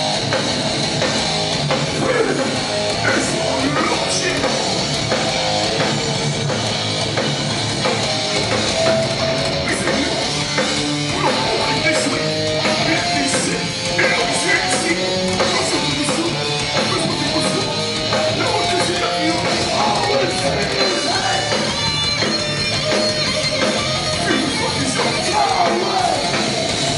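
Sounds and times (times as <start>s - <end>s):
bass: 0.0s - 26.9s
distorted electric guitars: 0.0s - 26.9s
drums: 0.0s - 26.9s.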